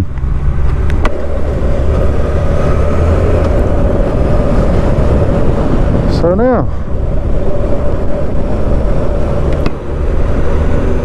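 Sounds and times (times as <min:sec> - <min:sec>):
wind and road noise: 0:00.0 - 0:11.0
motorcycle engine running at speed: 0:00.4 - 0:11.0.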